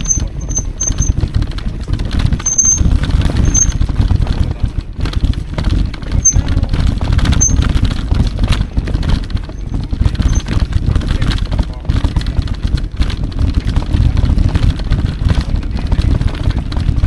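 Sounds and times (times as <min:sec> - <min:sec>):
bike tyres rumbling on trail: 0:00.0 - 0:17.0
wind on microphone: 0:00.0 - 0:17.0.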